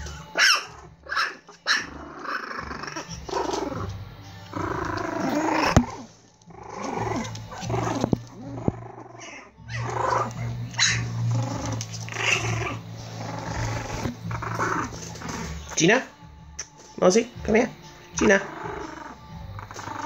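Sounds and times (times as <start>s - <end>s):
puppies growling in play: 0.0s - 15.8s, 18.0s - 20.0s.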